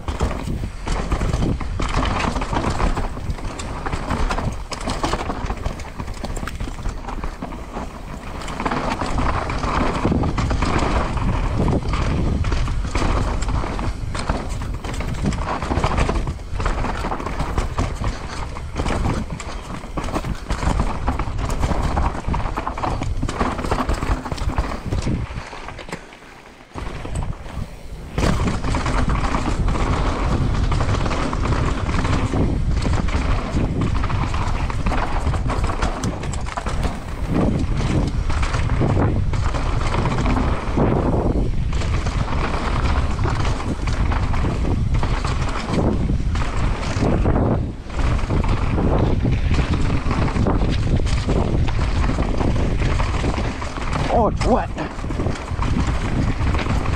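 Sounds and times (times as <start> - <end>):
bike chain and frame rattling: 0.0 - 56.9
bike tyres rumbling over dirt: 0.0 - 56.9
wind noise: 0.0 - 56.9.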